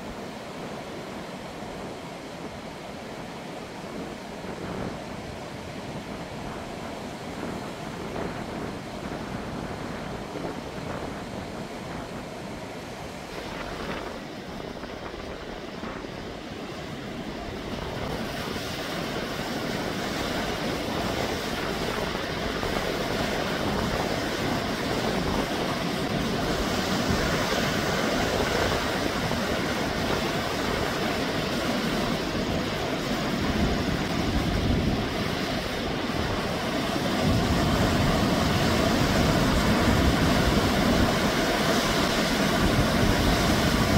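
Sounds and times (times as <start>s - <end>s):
surf washing over rocks: 0.0s - 43.9s.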